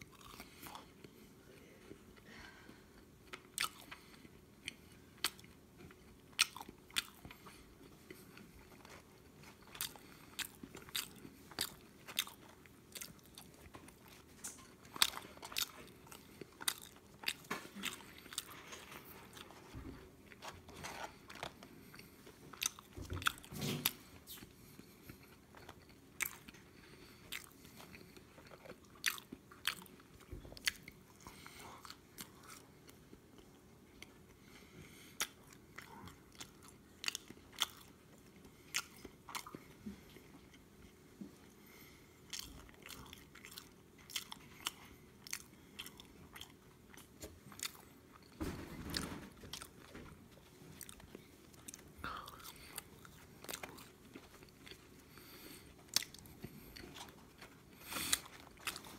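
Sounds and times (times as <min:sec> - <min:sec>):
person chewing fries: 0:00.0 - 0:02.2, 0:02.8 - 0:48.4, 0:49.4 - 0:58.9.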